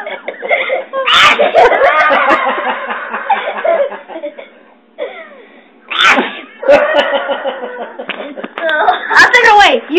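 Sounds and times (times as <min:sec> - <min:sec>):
laughter and giggling: 0:00.0 - 0:05.3, 0:06.2 - 0:09.3.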